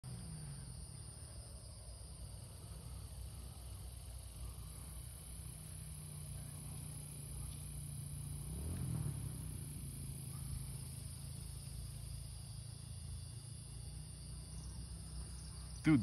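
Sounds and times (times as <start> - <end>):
insects trilling: 0.1 - 16.0.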